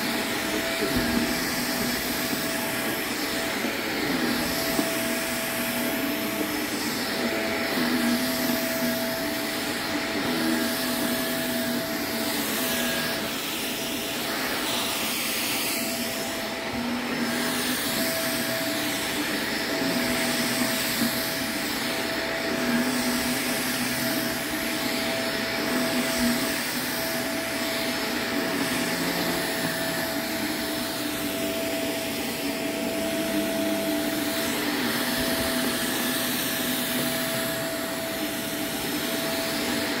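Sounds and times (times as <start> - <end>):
upright vacuum cleaner running: 0.0 - 40.0.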